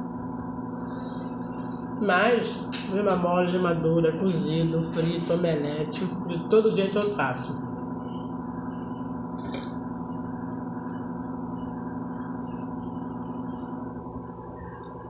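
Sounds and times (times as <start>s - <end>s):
droning hum of held tones: 0.0s - 15.0s.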